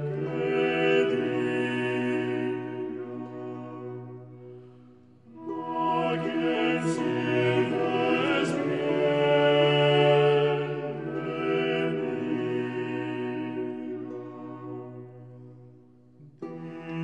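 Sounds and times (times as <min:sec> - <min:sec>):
classical music with singing voices: 0:00.0 - 0:17.0.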